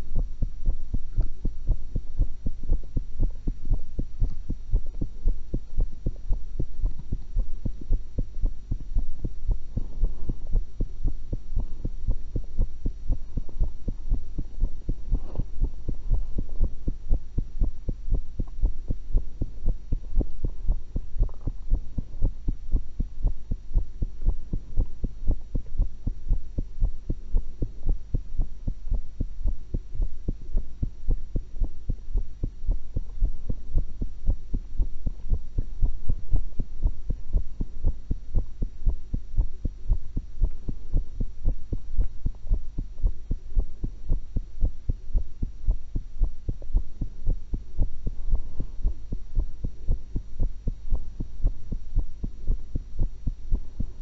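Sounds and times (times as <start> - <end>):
heartbeat through stethoscope: 0.0 - 54.0.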